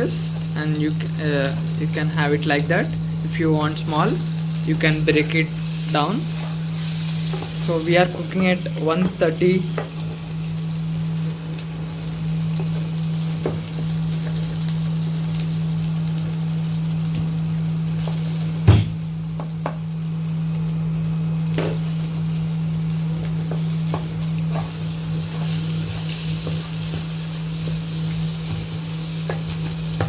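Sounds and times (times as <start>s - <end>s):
eggs sizzling in a pan: 0.0s - 30.0s.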